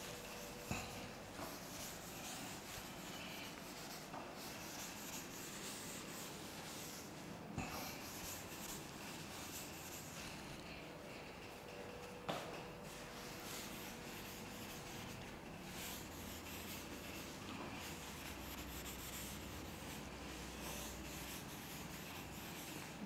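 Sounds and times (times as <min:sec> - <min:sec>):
duster rubbing on chalkboard: 0:00.0 - 0:10.6, 0:12.9 - 0:23.0.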